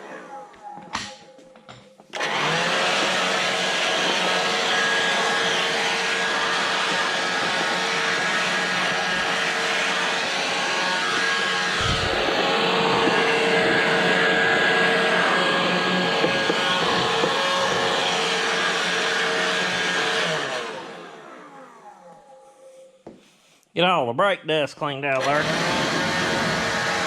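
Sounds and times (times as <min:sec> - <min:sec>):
electric blower motor running: 0:02.1 - 0:22.3, 0:25.2 - 0:27.0.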